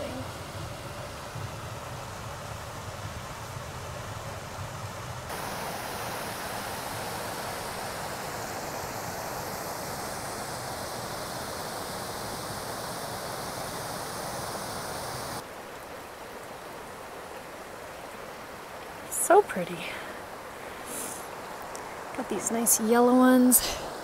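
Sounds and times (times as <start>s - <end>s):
creek rushing over cascade: 0.0s - 24.0s.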